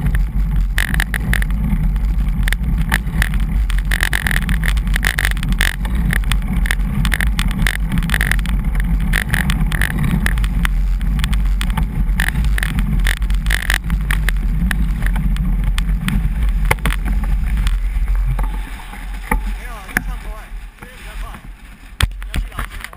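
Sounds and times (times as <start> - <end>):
bicycle road rumble: 0.0 - 22.9
clicks and knocks from bumps: 0.0 - 22.9
wind buffeting: 0.0 - 22.9.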